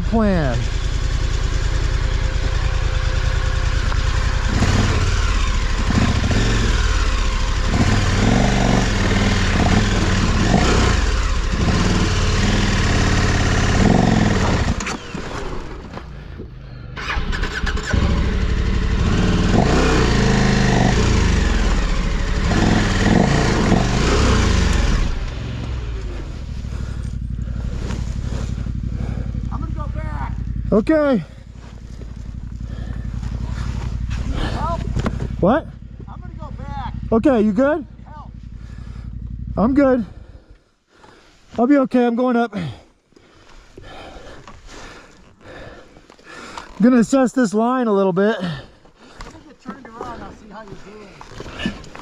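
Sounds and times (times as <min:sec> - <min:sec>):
motorcycle engine revving: 0:00.0 - 0:41.5, 0:48.4 - 0:52.0.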